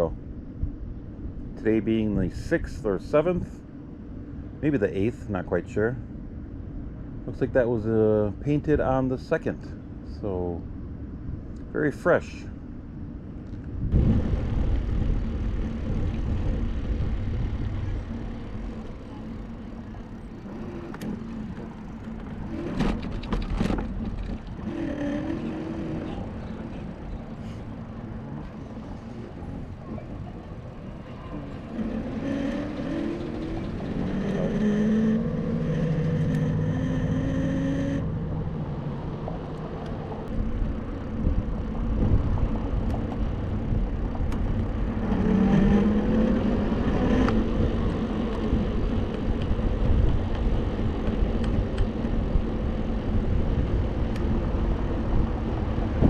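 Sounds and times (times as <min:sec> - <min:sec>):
wind rumble on microphone: 0:00.0 - 0:03.7, 0:12.7 - 0:37.2, 0:38.0 - 0:56.0.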